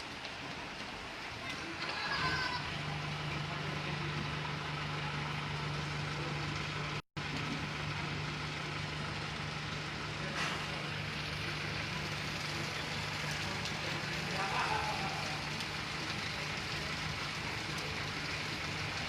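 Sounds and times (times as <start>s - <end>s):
rain falling: 0.0s - 19.0s
low motor hum: 0.2s - 19.0s.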